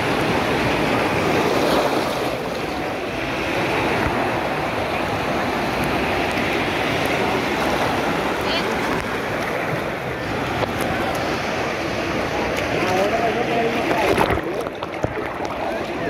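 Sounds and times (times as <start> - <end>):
waves breaking and churning: 0.0 - 16.0.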